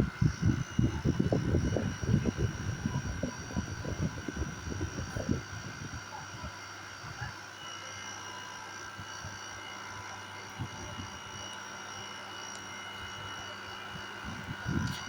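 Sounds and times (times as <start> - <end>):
air conditioner hum and whine: 0.0 - 15.0.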